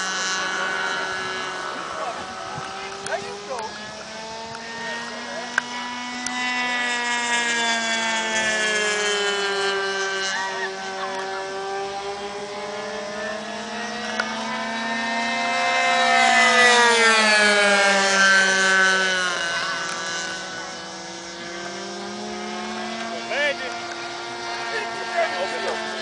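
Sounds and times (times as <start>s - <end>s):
model plane engines buzzing: 0.0s - 26.0s.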